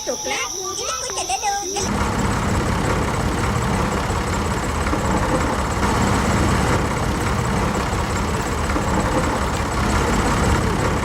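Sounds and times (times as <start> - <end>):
engine idling: 1.7 - 11.0.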